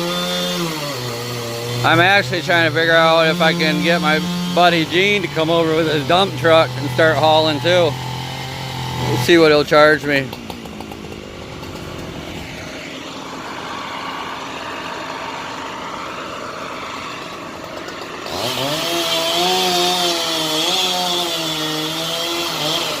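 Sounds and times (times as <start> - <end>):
steady machine noise: 0.0 - 21.0
chainsaw revving: 0.0 - 23.0.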